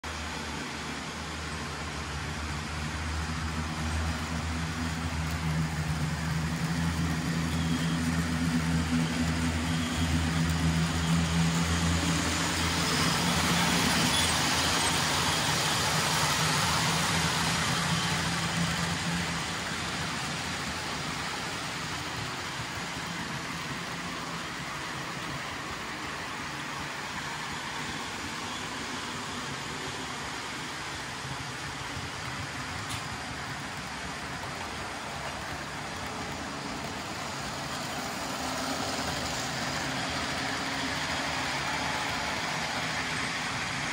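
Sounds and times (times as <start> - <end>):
model train wheel noise: 0.1 - 43.9.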